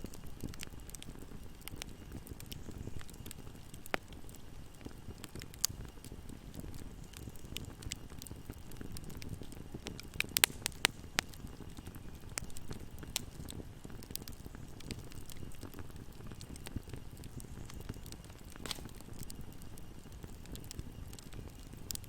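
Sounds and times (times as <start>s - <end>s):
fire flames rumbling: 0.0s - 22.0s
fire popping and snapping: 0.0s - 22.0s.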